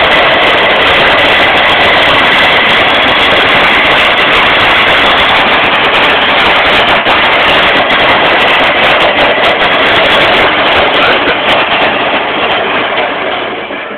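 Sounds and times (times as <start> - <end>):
wheels rumbling over tarmac: 0.0 - 13.9.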